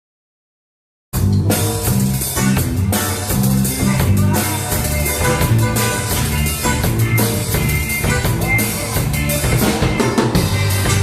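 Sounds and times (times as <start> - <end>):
drum kit: 1.2 - 11.0
guitar: 1.2 - 11.0
worship band playing: 1.2 - 11.0.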